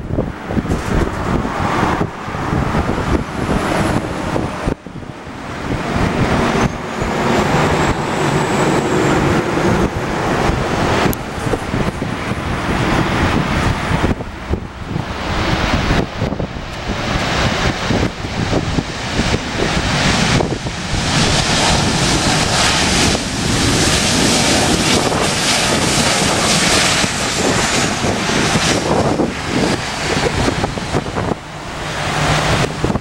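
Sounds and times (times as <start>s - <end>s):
high turbine whine: 0.0s - 33.0s
jet engines running: 0.0s - 33.0s
wind rumble on microphone: 0.0s - 33.0s.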